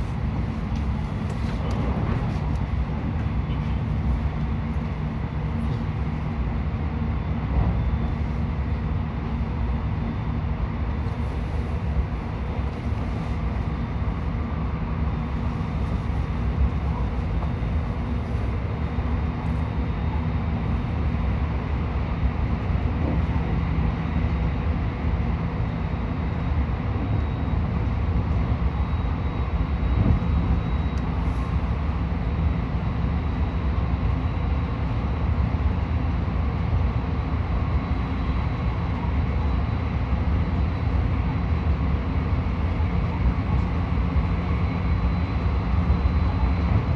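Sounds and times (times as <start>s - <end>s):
faint steady whine: 0.0s - 46.9s
train wheels rumbling on rail: 0.0s - 46.9s.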